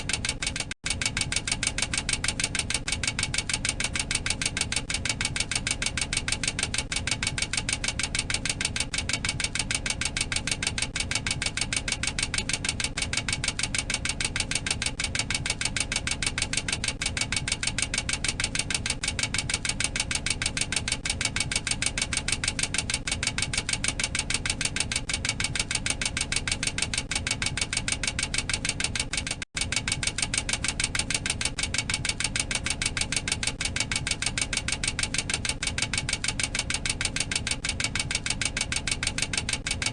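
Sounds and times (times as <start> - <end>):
fast mechanical warning clacker: 0.0 - 39.9.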